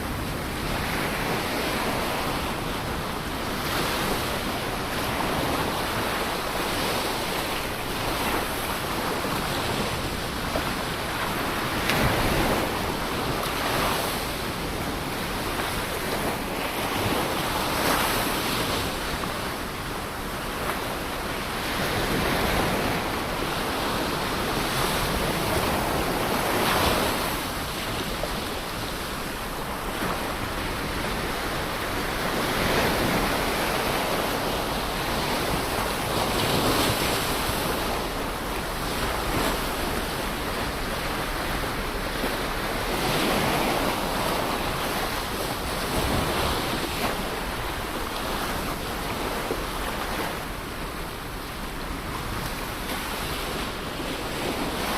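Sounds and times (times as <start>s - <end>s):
ocean surf breaking on shore: 0.0s - 54.9s.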